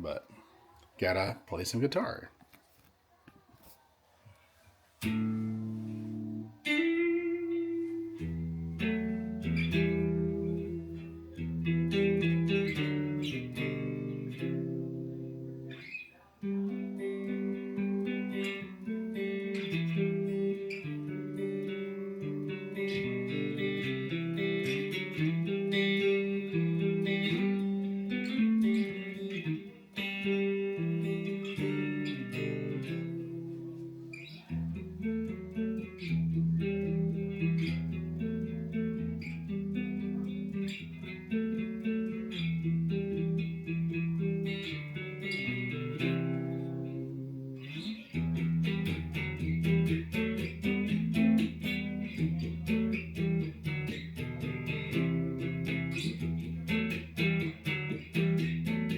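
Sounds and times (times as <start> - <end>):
guitar playing: 5.0 - 58.9.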